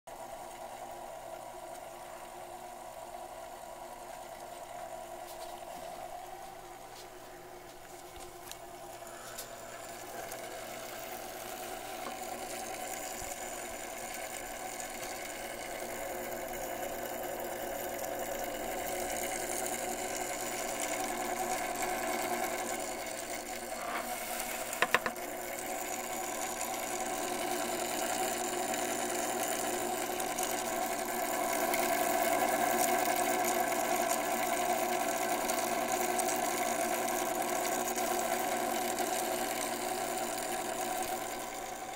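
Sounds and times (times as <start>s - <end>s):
clock motor humming: 0.1s - 41.9s.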